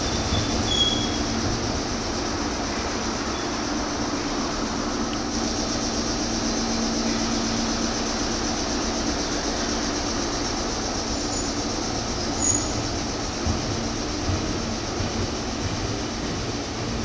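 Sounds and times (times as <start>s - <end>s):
express train running at speed: 0.0s - 17.0s.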